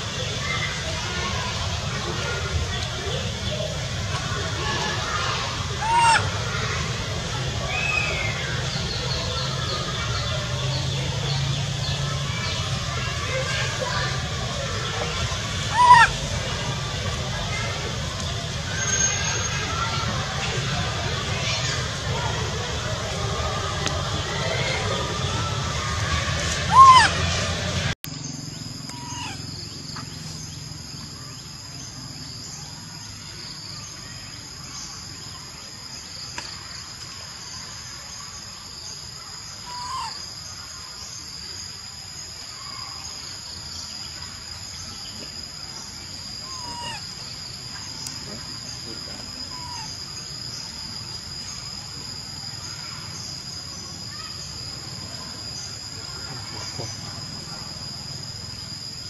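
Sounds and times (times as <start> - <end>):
insect chirps: 0.0 - 27.4, 28.1 - 59.0
insects shrilling drone: 0.0 - 59.0.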